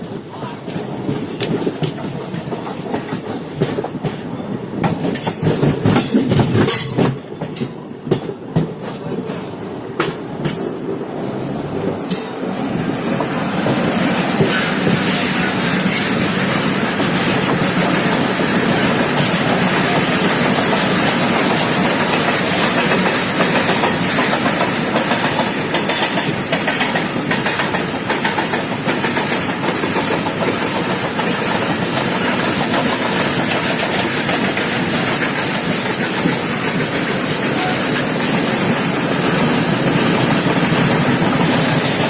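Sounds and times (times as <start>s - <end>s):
train wheels rushing on rails: 0.0s - 42.0s.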